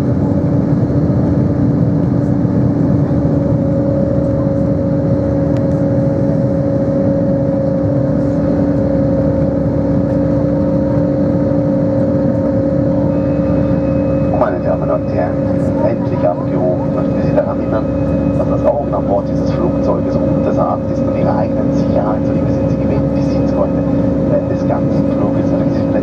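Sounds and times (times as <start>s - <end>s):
jet engine cabin drone: 0.0s - 26.0s
steady hum tones: 0.0s - 26.0s.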